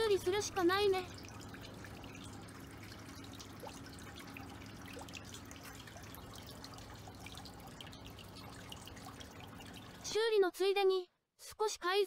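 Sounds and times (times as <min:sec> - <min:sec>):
low steady hum: 0:00.0 - 0:10.4
water dripping and trickling: 0:00.0 - 0:10.4.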